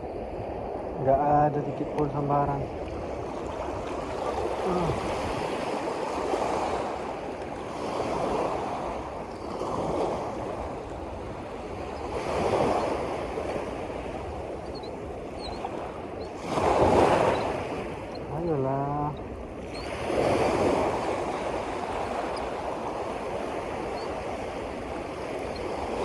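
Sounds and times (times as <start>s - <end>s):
waves washing in: 0.0s - 26.0s.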